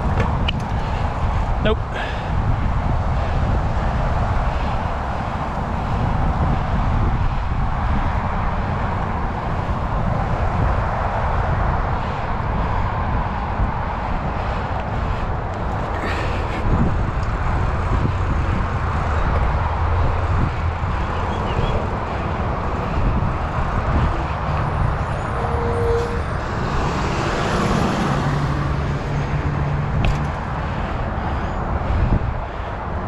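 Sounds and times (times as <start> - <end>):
road traffic passing: 0.0 - 33.0
vehicle engine hum: 0.0 - 33.0
wind on microphone: 0.0 - 33.0.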